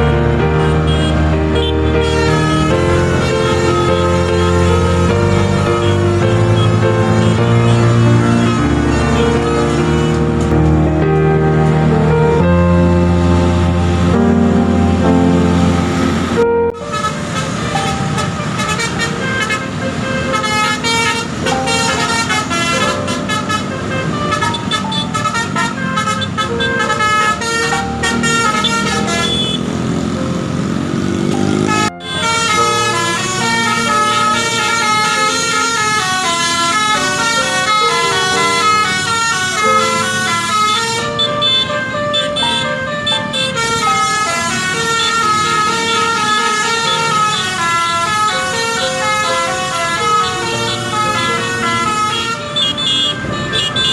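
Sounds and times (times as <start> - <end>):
multi-tone air horn melody: 0.0 - 30.0, 31.4 - 53.9.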